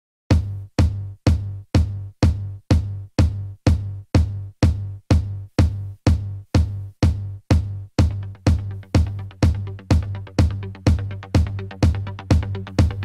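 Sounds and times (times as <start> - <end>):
electronic music with kick drum and bass: 0.3 - 13.0.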